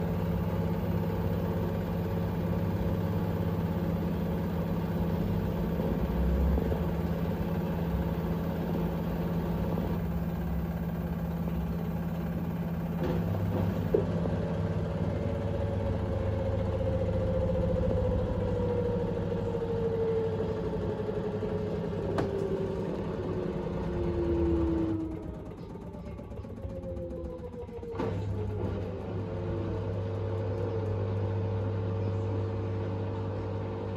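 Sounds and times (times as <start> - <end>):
washing machine drum humming: 0.0 - 32.0.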